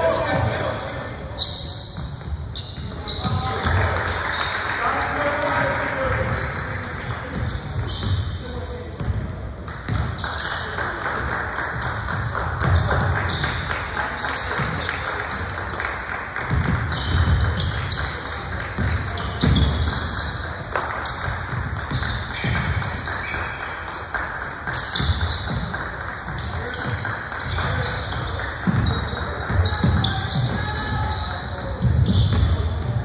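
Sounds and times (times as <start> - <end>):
sneaker squeaks: 0.0 - 33.0
basketball bouncing on court: 5.4 - 33.0.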